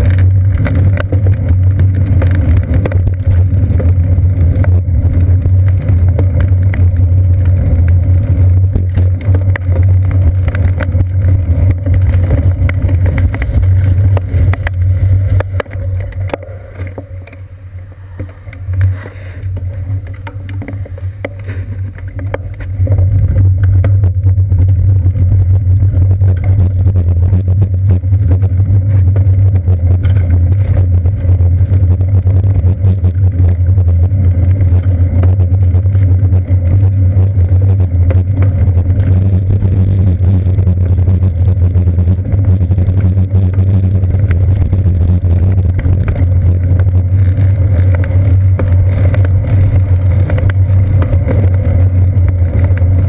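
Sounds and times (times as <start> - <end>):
road vibration rumble: 0.0 - 53.0.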